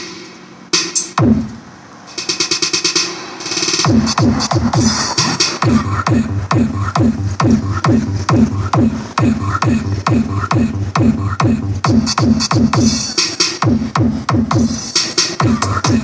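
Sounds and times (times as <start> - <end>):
electronic dance music: 0.0 - 16.0
bass beat: 0.8 - 1.7, 2.7 - 16.0
falling pew sweep: 0.8 - 16.0.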